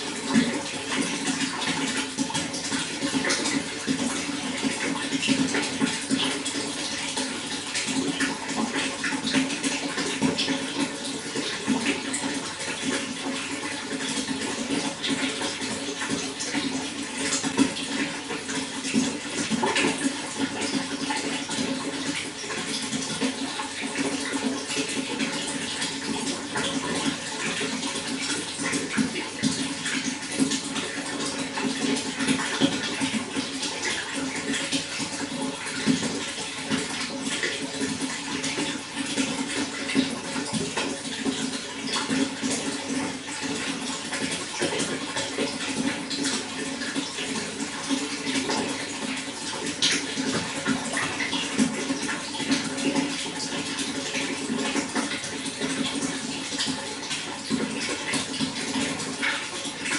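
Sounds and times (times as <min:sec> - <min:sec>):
running water splashing and gurgling: 0:00.0 - 0:59.9.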